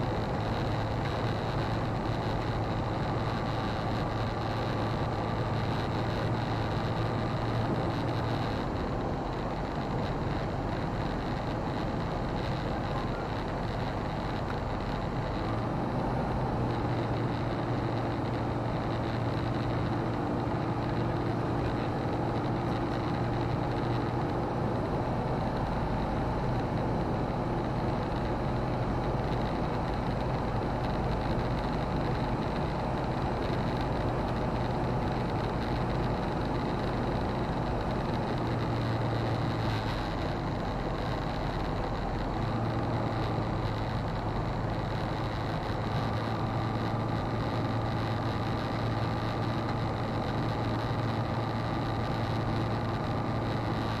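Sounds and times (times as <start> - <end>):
ultralight engine and propeller drone: 0.0 - 54.0.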